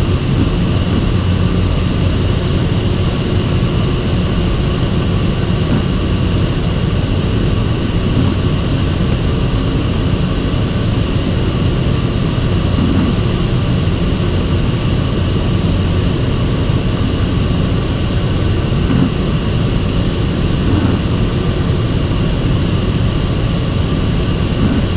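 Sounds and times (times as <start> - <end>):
seaplane engine and propeller drone: 0.0 - 24.9.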